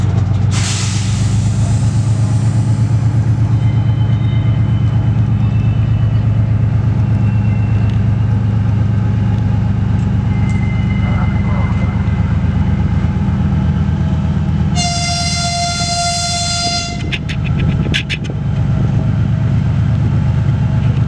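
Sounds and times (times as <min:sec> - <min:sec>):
diesel locomotive engine throbbing: 0:00.0 - 0:21.0.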